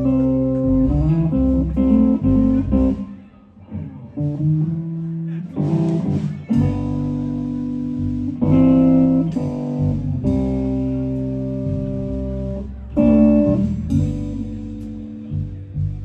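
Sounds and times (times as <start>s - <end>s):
bass guitar: 0.0s - 16.0s
drums: 0.0s - 16.0s
electric guitar chords ringing: 0.0s - 16.0s.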